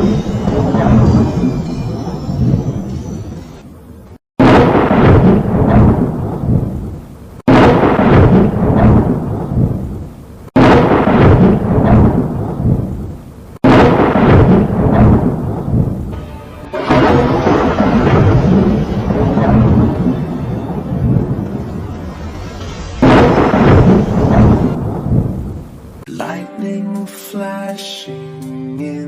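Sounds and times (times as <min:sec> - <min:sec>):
thunder claps with rumble: 0:00.0 - 0:03.6, 0:04.4 - 0:26.0.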